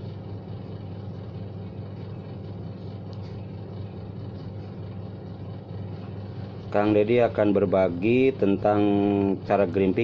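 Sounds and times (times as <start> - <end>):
low background hum and rumble: 0.0 - 10.0.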